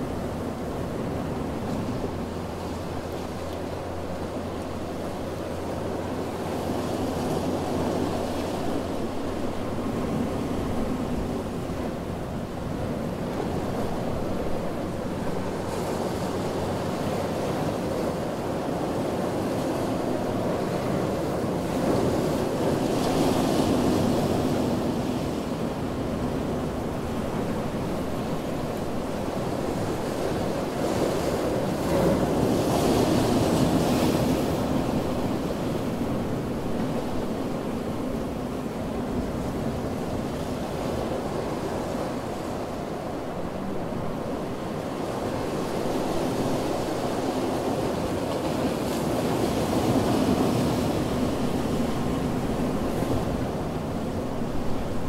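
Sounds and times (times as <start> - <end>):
ocean waves washing ashore: 0.0 - 55.0.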